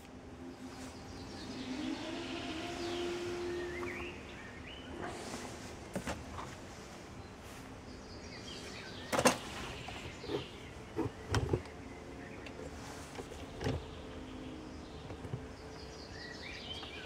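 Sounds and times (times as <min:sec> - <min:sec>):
outdoor background: 0:00.0 - 0:17.0.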